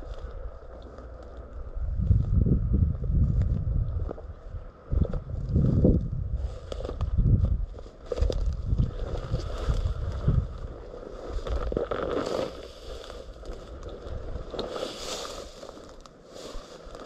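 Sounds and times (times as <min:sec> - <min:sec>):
rustling hiss: 0:00.0 - 0:17.0
wind buffeting microphone: 0:00.0 - 0:17.0.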